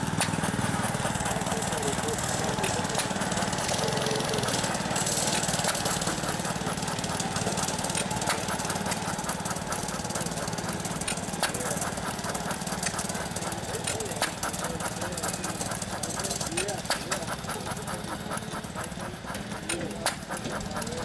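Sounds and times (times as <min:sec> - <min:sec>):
hit-and-miss engine running: 0:00.0 - 0:21.0
sharp clicks: 0:00.0 - 0:21.0.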